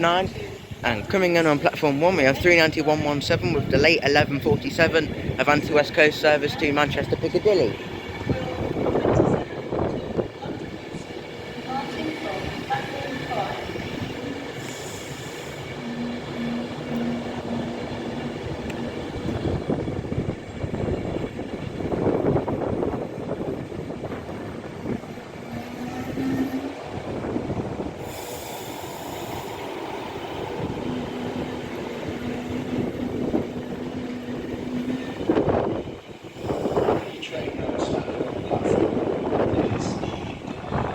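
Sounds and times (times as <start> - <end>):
electric train slowing: 0.0 - 40.9.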